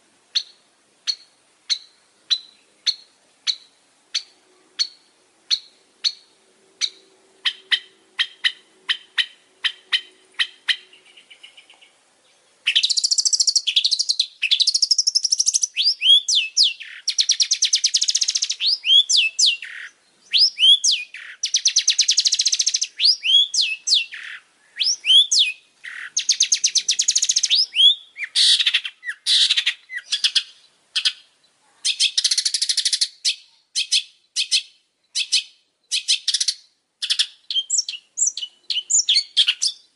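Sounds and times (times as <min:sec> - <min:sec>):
bird ticking calls: 0:00.3 - 0:12.0, 0:12.6 - 0:39.9
bird scratchy chattering song: 0:00.4 - 0:12.0, 0:12.6 - 0:39.9.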